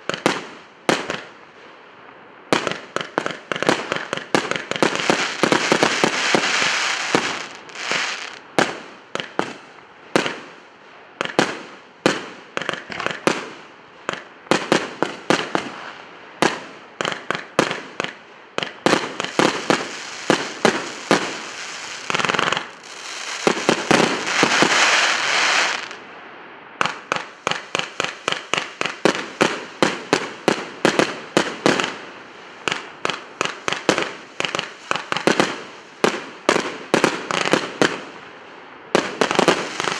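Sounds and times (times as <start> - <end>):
dense firework crackling: 2.6 - 9.6, 11.2 - 26.1, 26.8 - 38.2, 39.0 - 39.9.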